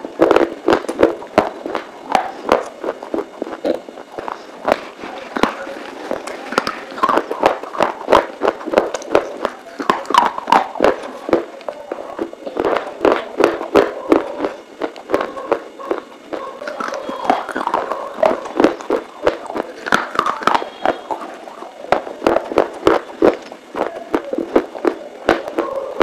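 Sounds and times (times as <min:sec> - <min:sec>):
chewing dry clay crunching: 0:00.0 - 0:26.0
wet mouth sounds: 0:00.0 - 0:26.0.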